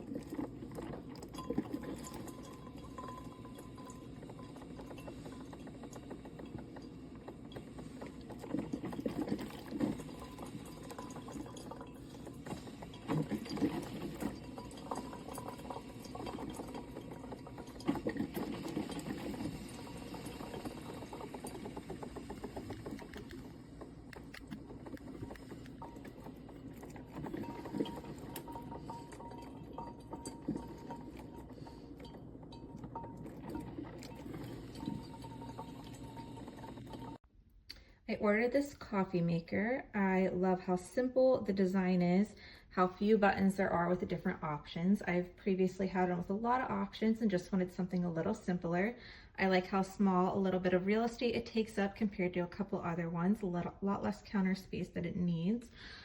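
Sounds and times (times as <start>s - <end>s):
coffee maker water bubbling: 0.0s - 37.2s, 38.1s - 56.0s.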